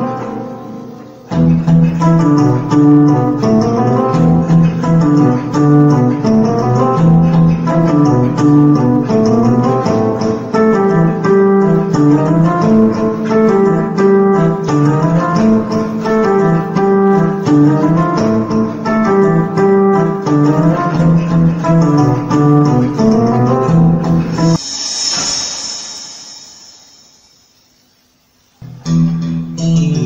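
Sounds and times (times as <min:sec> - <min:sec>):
electronic keyboard chords and bass: 0:00.0 - 0:26.4.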